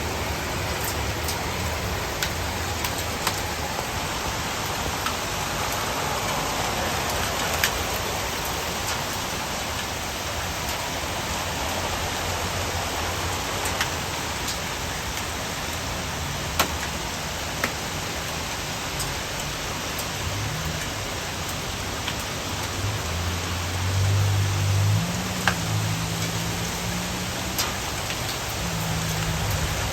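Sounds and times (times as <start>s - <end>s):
heavy rain hissing: 0.0s - 29.9s.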